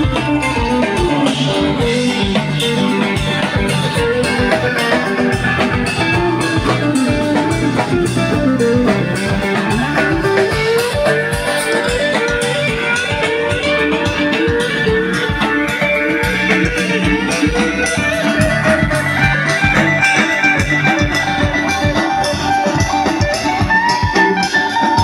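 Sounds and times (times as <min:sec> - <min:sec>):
bending guitar melody: 0:00.0 - 0:25.0
rock band playing: 0:00.0 - 0:25.0.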